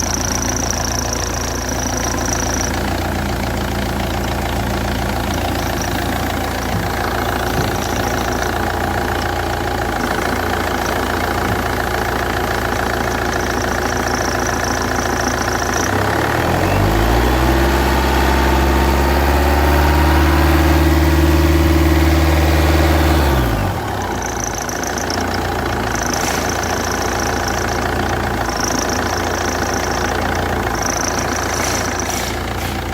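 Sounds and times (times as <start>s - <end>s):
alternator belt tensioner noise: 0.0s - 32.9s
car engine idling and revving: 0.0s - 32.9s.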